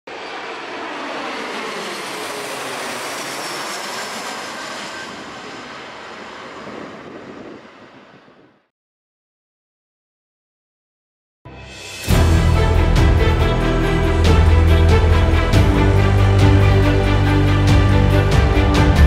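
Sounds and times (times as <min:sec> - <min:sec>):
high engine whine: 0:00.1 - 0:08.7, 0:12.0 - 0:19.0
jet engines roaring overhead: 0:00.1 - 0:08.7, 0:12.1 - 0:19.0.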